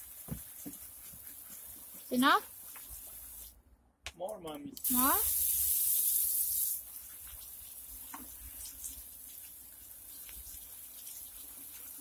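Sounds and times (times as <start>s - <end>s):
water jets hissing on soil: 0.0s - 3.6s, 4.8s - 12.0s.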